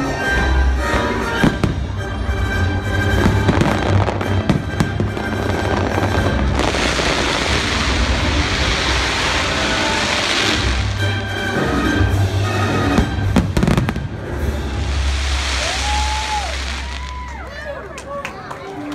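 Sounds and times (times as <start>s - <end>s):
show music: 0.0s - 18.9s
fireworks crackling: 0.9s - 17.5s
fireworks bangs: 1.3s - 11.3s, 12.0s - 17.2s.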